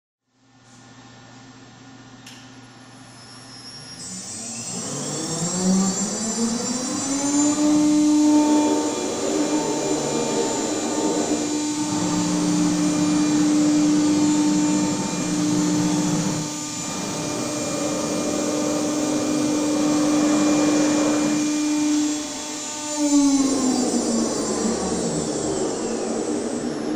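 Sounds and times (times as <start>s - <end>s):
router motor whine: 4.0s - 26.9s.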